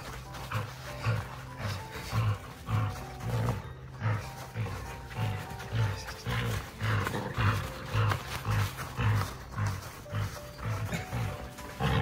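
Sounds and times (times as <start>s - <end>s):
background music with steady beat: 0.0s - 12.0s
dogs growling: 0.0s - 12.0s.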